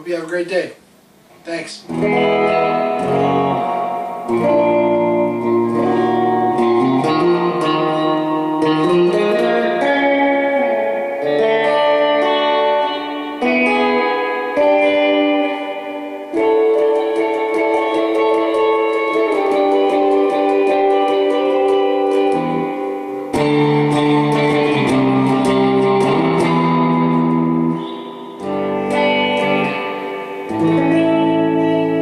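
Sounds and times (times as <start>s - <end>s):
clean electric guitar surf chords: 0.8s - 32.0s.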